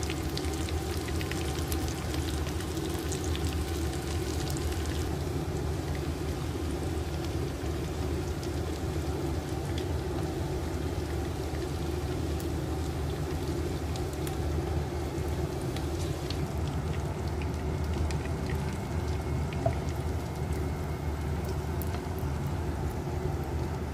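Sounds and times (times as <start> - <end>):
fish frying in hot oil: 0.0 - 23.9
steady low hum: 0.0 - 23.9.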